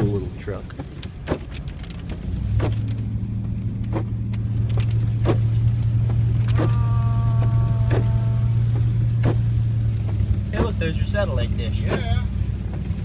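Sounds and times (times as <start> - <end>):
car engine and road drone: 0.0 - 13.0
rain on glass: 0.0 - 13.0
windshield wipers ticking: 0.0 - 13.0.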